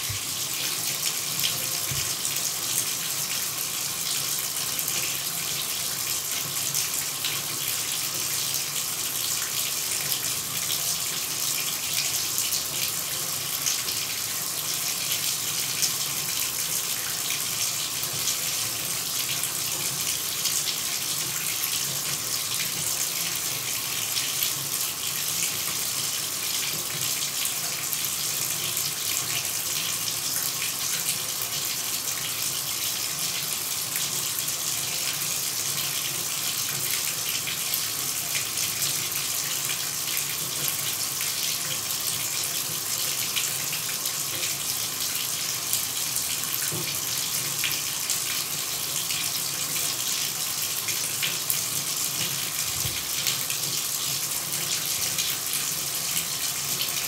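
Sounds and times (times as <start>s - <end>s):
shower running: 0.0s - 57.0s.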